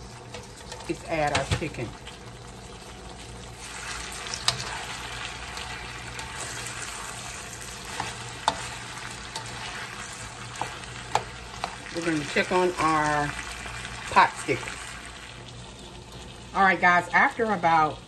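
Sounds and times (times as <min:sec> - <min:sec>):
chicken sizzling in a wok: 0:00.0 - 0:18.0.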